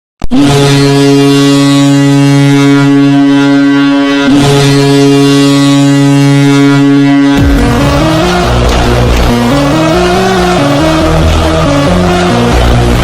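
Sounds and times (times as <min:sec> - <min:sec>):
goal horn blasting: 0:00.3 - 0:13.0.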